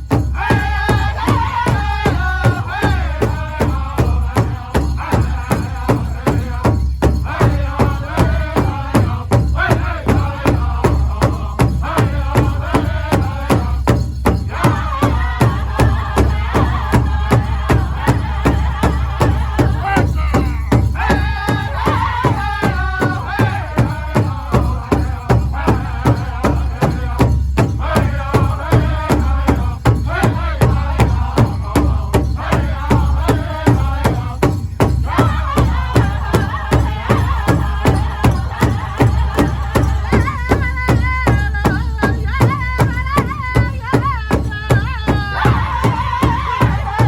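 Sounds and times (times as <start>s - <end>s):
big drum beating: 0.0s - 47.0s
men singing in high unison: 0.0s - 47.0s.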